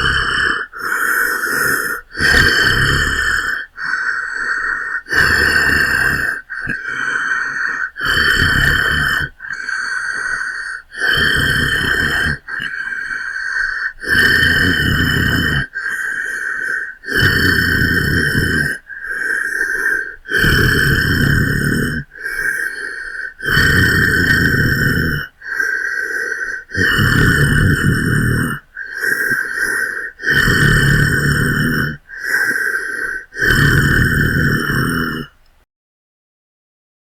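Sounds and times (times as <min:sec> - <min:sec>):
breathy monster growl: 0:00.0 - 0:35.4.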